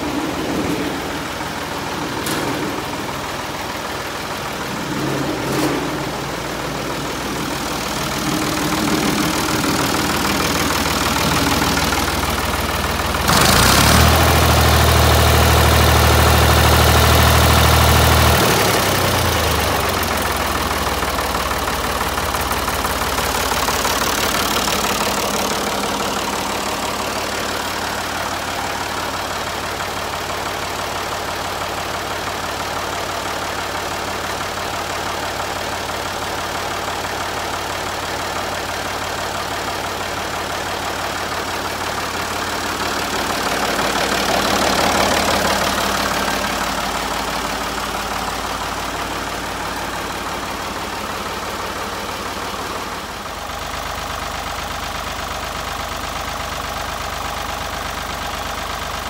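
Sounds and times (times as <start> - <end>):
diesel tractor engine idling: 0.0 - 59.0.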